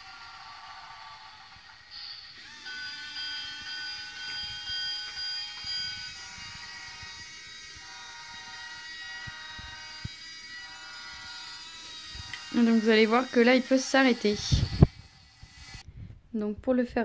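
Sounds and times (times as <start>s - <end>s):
toy train motor whine: 0.0s - 15.9s.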